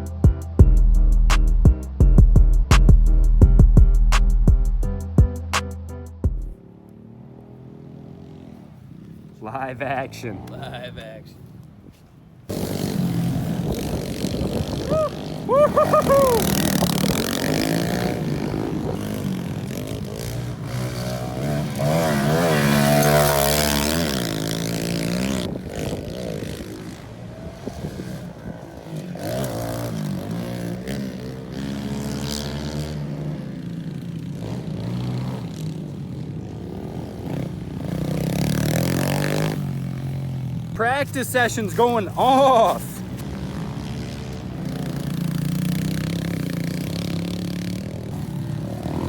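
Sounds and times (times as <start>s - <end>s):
pit bike engines revving: 6.6s - 11.7s, 12.4s - 49.0s.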